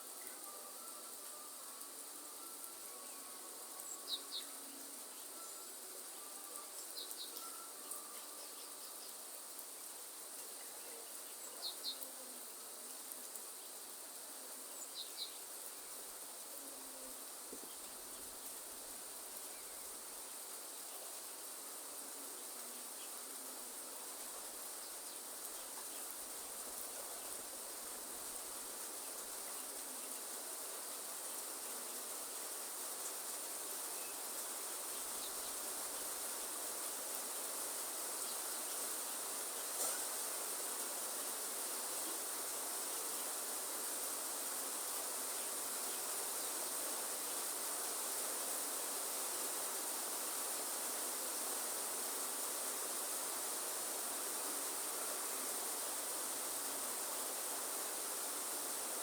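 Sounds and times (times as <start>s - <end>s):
even hiss: 0.0s - 59.0s
insects droning: 0.0s - 59.0s.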